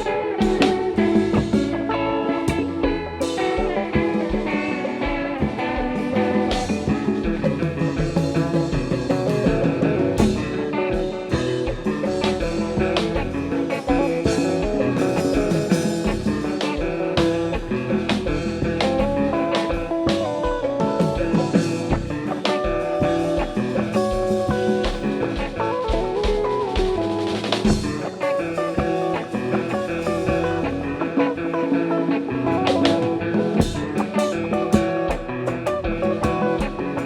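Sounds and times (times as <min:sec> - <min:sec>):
drum kit beat: 0:00.0 - 0:31.4, 0:32.6 - 0:37.0
guitars playing: 0:00.0 - 0:37.0.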